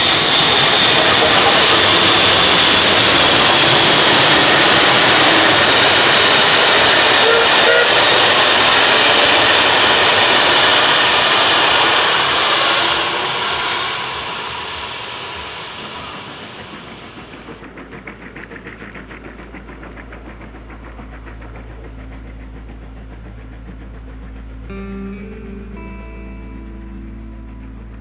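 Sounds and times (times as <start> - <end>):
steam train rushing past: 0.0 - 28.0.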